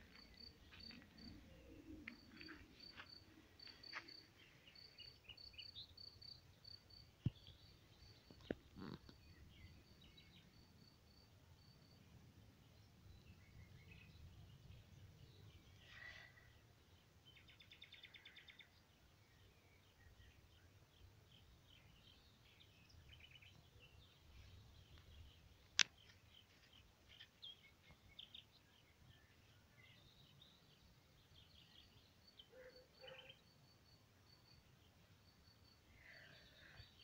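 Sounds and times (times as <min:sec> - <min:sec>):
songbird chirps and calls: 0:00.0 - 0:37.0.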